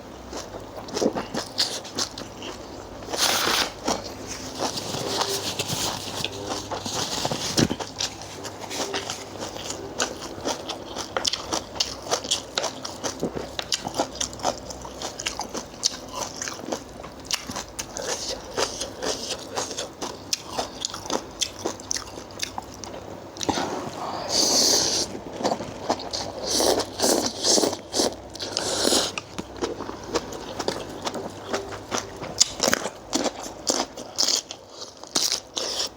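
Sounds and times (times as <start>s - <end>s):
person chewing crunchy food: 0.3s - 35.9s.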